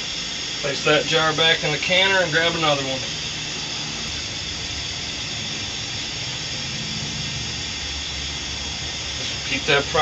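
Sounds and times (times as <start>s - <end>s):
cooker hiss with low hum: 0.0s - 10.0s.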